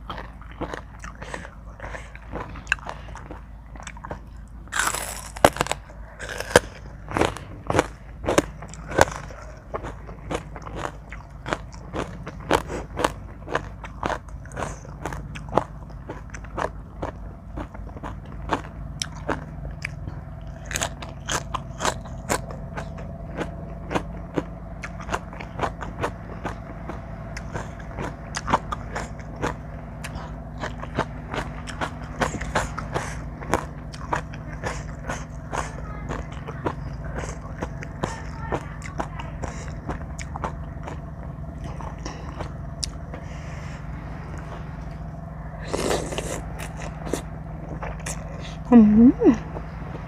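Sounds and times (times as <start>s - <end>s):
person chewing crunchy food: 0.0s - 48.7s
faint steady hum: 0.0s - 50.0s.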